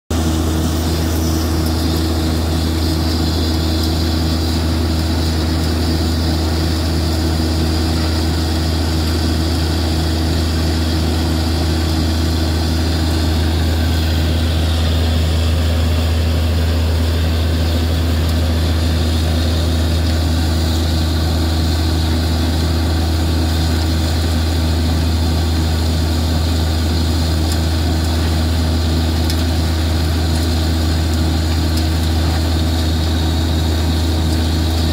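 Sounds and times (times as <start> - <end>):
drilling rig engine drone: 0.1 - 34.9.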